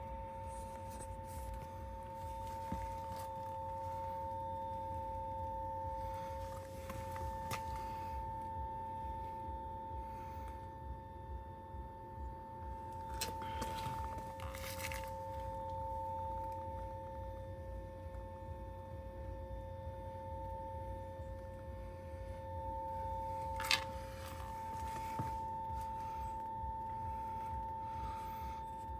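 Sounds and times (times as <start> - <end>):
two-tone electrical buzz: 0.0 - 28.9.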